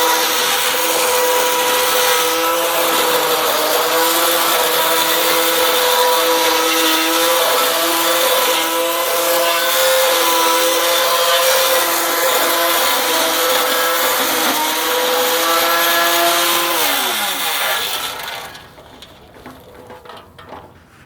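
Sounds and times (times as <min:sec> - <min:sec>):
angle grinder trimmer cutting grass: 0:00.0 - 0:19.8.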